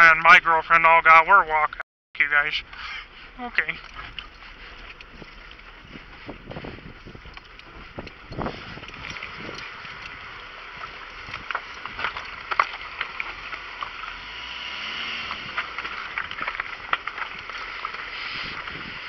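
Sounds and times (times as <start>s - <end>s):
gravel crunching underfoot: 2.3s - 19.0s.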